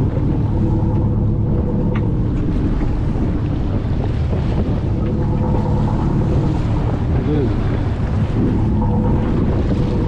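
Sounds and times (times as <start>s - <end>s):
boat engine droning: 0.0s - 10.0s
water washing against hull: 0.0s - 10.0s
wind buffeting microphone: 0.0s - 10.0s.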